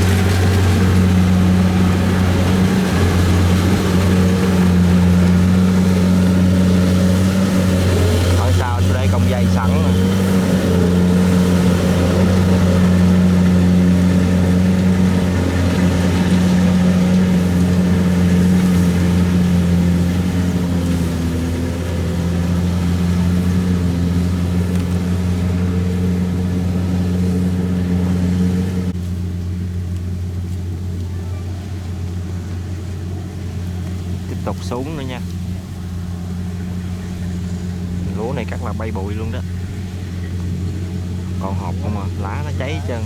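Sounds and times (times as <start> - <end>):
combine harvester diesel engine: 0.0 - 43.0.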